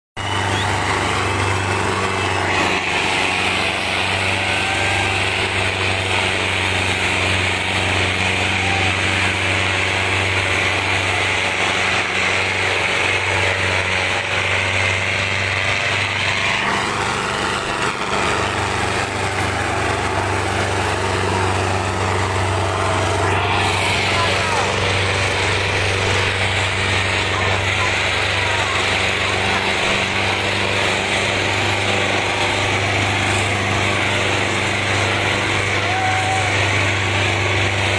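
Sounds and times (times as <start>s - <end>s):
tractor diesel engine droning: 0.2s - 37.9s.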